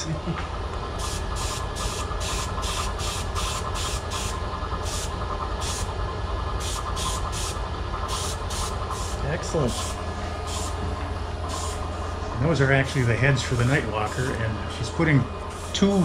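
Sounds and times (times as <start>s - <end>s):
steady low hum: 0.0s - 16.0s
air spray gun hissing in bursts: 0.9s - 5.9s, 6.5s - 16.0s.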